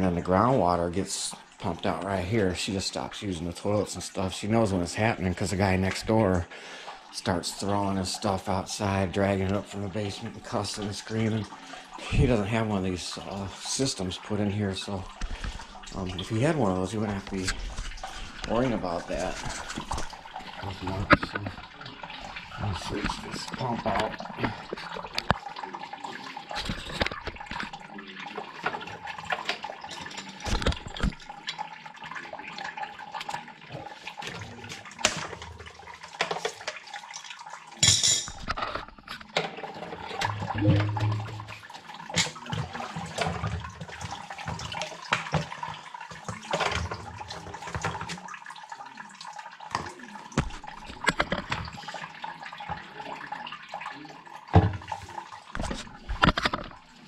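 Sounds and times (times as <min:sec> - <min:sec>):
pump and piping clunking: 0:00.0 - 0:57.0
water sloshing and splashing: 0:00.0 - 0:57.0.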